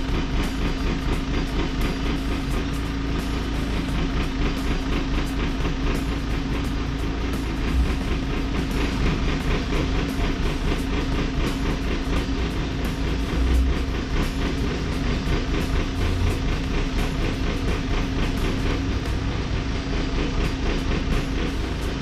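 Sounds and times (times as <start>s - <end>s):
diesel engine running: 0.0s - 22.0s
rhythmic engine clatter: 0.0s - 22.0s.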